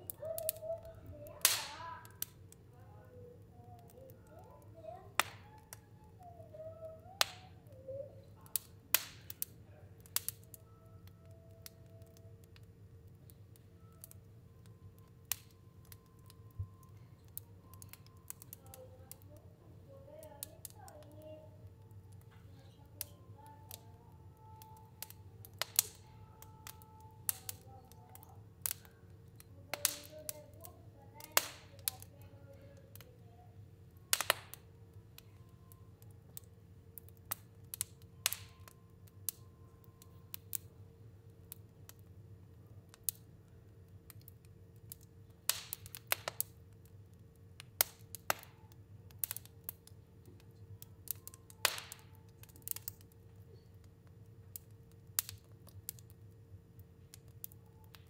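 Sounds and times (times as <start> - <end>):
fire crackling in a stove: 0.0 - 58.0
low steady hum: 0.0 - 58.0
sharp pops of fire: 0.2 - 2.5, 5.1 - 5.8, 7.0 - 19.3, 21.9 - 32.1, 34.0 - 40.7, 42.9 - 43.3, 43.9 - 58.0.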